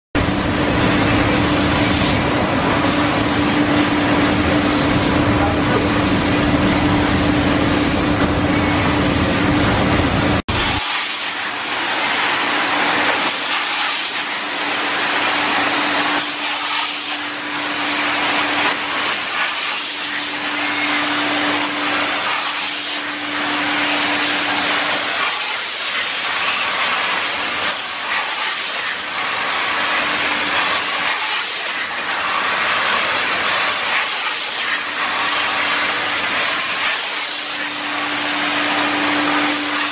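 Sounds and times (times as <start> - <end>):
machine running: 0.2 - 39.9.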